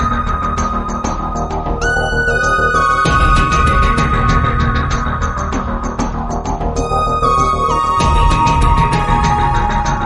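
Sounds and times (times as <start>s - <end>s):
bass and drum beat music: 0.0s - 10.0s.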